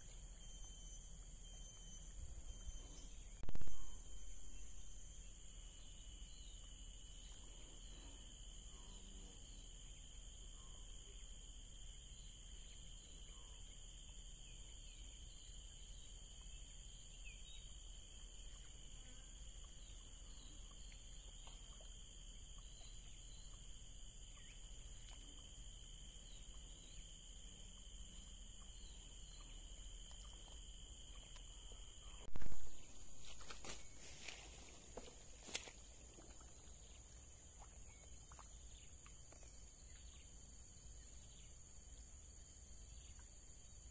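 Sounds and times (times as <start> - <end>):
faint bird chirps: 0.0 - 41.7
insects droning: 0.0 - 43.9.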